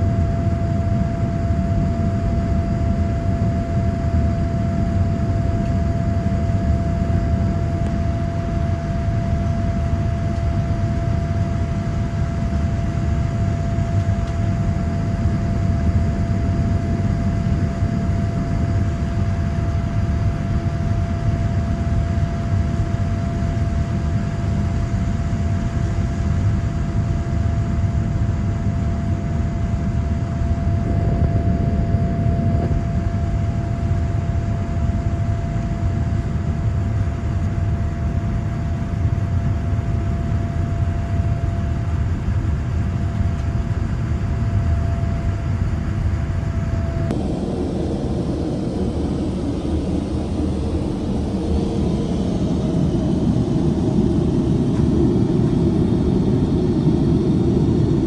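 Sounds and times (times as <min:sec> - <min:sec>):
airliner cabin rumble: 0:00.0 - 0:58.0
constant engine whine: 0:00.0 - 0:58.0.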